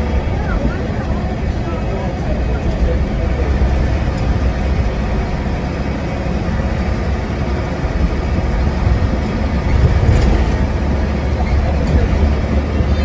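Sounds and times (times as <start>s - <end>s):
bus engine drone: 0.0s - 13.0s
road and body noise: 0.0s - 13.0s.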